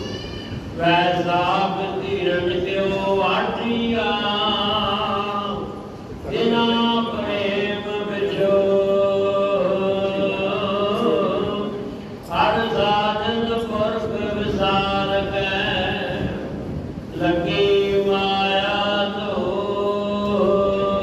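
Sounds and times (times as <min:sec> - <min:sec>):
religious chanting: 0:00.6 - 0:21.0.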